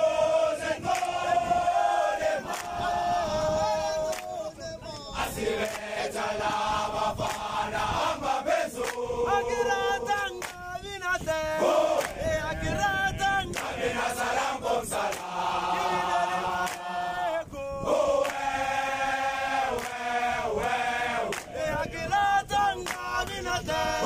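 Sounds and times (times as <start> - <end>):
soldiers singing a chant: 0.0 - 24.0.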